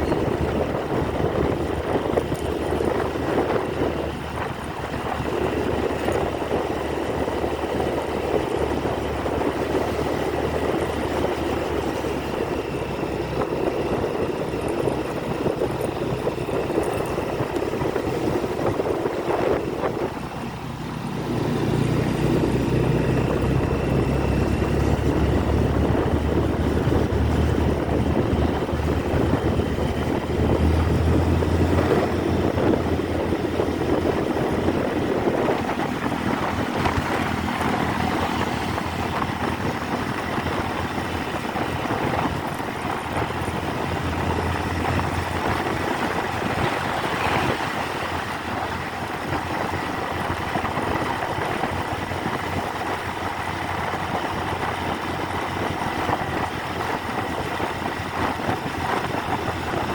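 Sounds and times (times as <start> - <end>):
motorcycle engine running: 0.0 - 59.9
road noise: 0.0 - 59.9
wind noise: 0.0 - 59.9.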